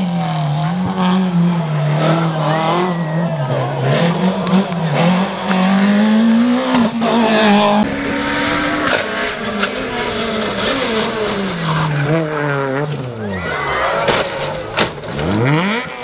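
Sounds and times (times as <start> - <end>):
rally car engine at full throttle: 0.0 - 16.0.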